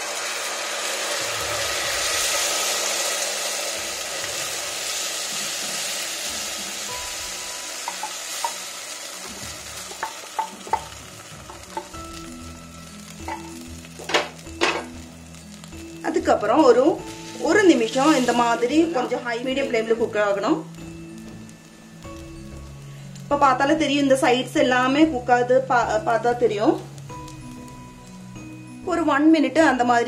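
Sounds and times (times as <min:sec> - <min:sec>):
batter sizzling in hot oil: 0:00.0 - 0:30.0.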